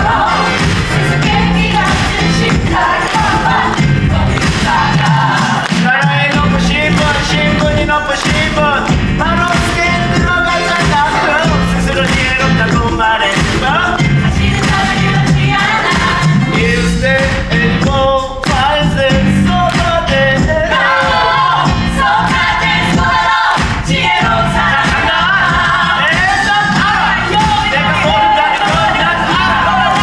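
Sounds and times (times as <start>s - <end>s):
band playing steady beat: 0.0s - 30.0s
cast singing: 0.0s - 30.0s.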